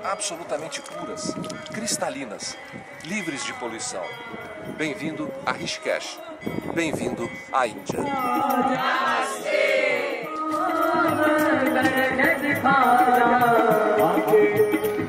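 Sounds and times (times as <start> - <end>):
light steady percussion: 0.0 - 15.0
person singing chant-like melody: 0.0 - 15.0.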